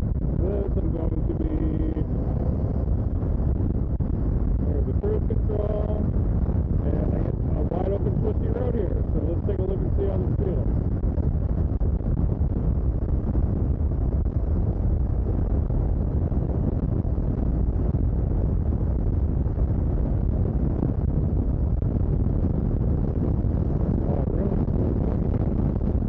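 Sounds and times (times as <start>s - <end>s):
wind rush over microphone: 0.0s - 26.0s.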